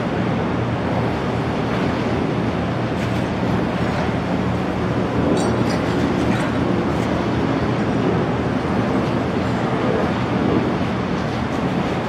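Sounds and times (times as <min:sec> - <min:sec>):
fire pump machinery drone: 0:00.0 - 0:12.0
rushing churning water: 0:00.0 - 0:12.0.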